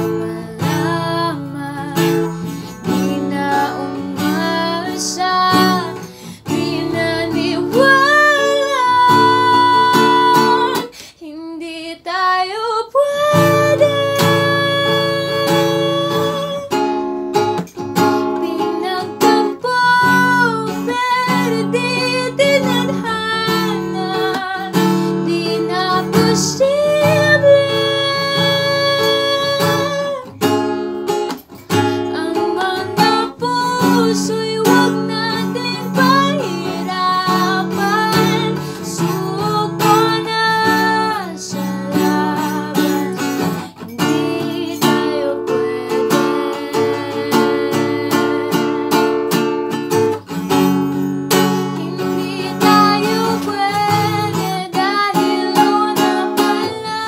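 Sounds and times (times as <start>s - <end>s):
acoustic guitar strumming: 0.0s - 11.1s, 13.0s - 57.0s
woman singing: 0.0s - 57.0s.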